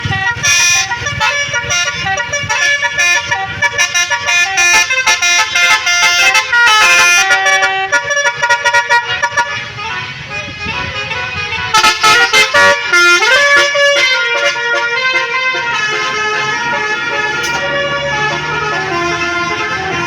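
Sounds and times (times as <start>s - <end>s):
multi-tone bus air horn melody: 0.0s - 20.0s.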